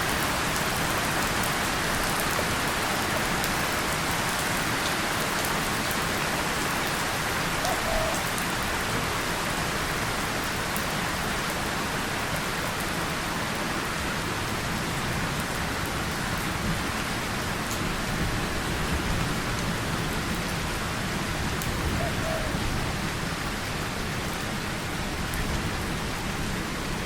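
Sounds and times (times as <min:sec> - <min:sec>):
rain on tin and leaves: 0:00.0 - 0:27.0.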